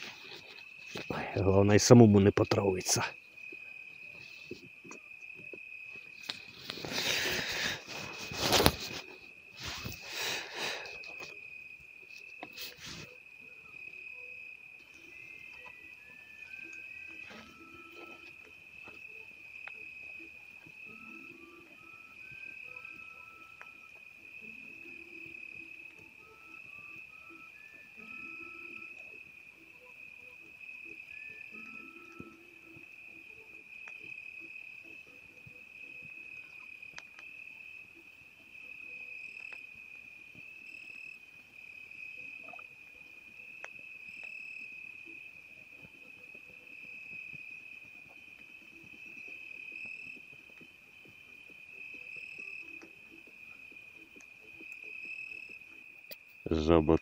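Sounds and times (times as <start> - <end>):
campfire popping: 0.0 - 57.0
crickets trilling: 0.0 - 57.0.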